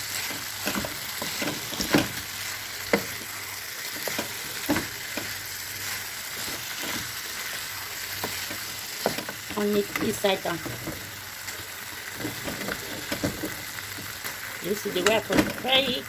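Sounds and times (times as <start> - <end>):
food sizzling in a pot: 0.0 - 16.0.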